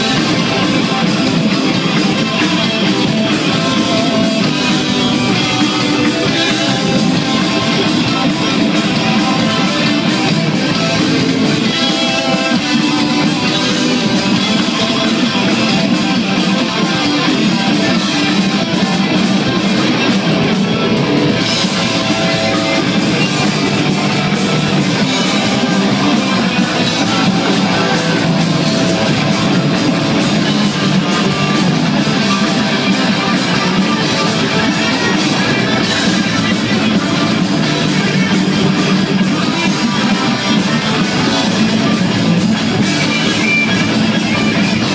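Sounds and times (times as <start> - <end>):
drums: 0.0 - 44.9
electric guitars: 0.0 - 44.9.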